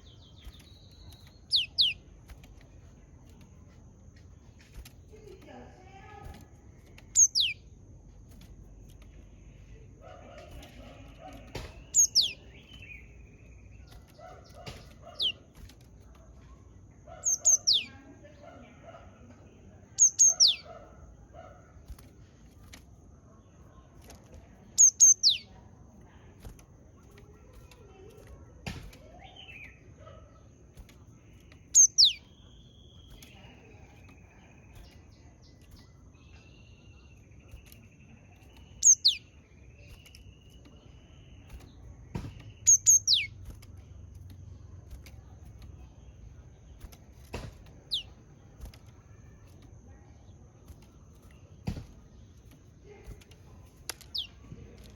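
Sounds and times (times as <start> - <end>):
faint bird chirps: 0.0 - 54.9.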